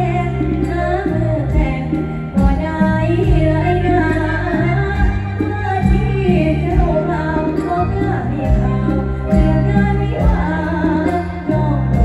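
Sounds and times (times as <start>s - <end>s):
amplified live band with singing: 0.0s - 12.0s.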